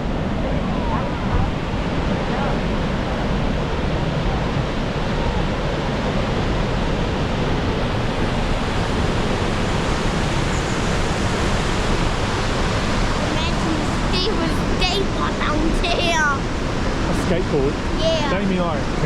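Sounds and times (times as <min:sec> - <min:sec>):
roar of waterfall: 0:00.0 - 0:19.0.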